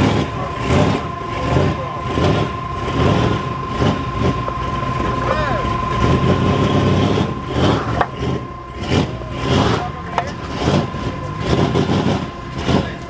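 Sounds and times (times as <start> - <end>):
car engines revving: 0.0 - 13.0
steady high whine: 0.0 - 13.0.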